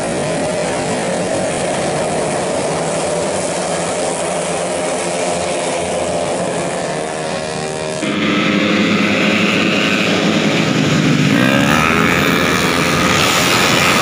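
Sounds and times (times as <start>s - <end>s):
scooter engines buzzing at high revs: 0.0s - 14.0s.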